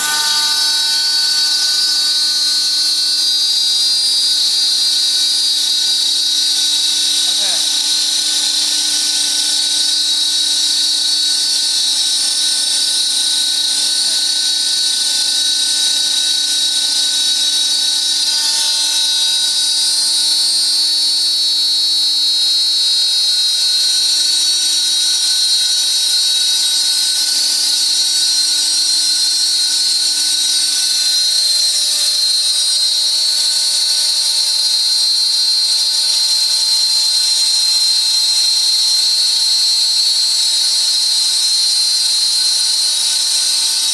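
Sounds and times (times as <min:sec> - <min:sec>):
router spindle high-pitched whine: 0:00.0 - 0:43.9.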